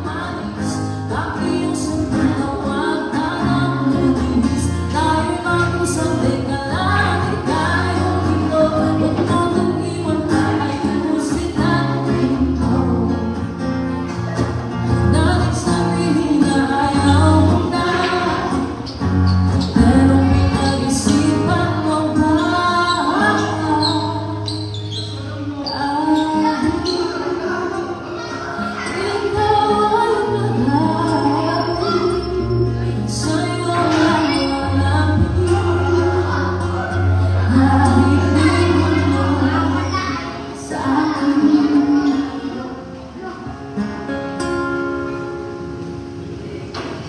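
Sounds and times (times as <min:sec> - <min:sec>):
woman singing slow song: 0:00.0 - 0:13.6, 0:15.0 - 0:18.9, 0:19.6 - 0:24.7, 0:25.4 - 0:42.9
acoustic guitar: 0:00.0 - 0:47.0.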